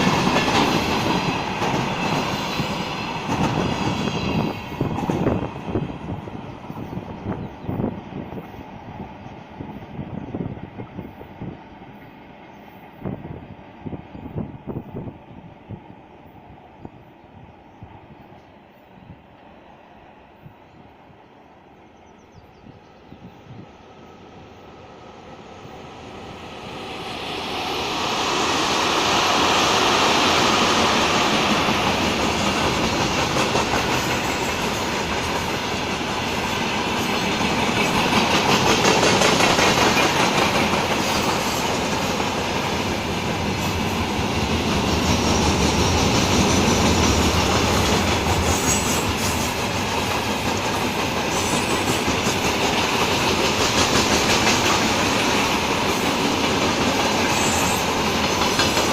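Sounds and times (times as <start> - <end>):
freight train rumble: 0.0 - 58.9.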